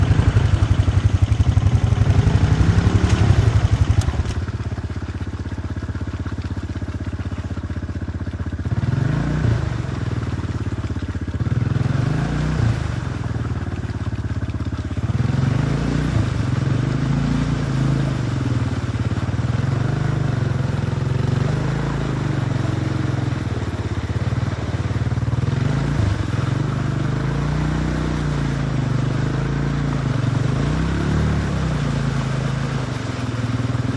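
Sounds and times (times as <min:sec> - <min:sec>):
atv engine revving in mud: 0:00.0 - 0:33.9.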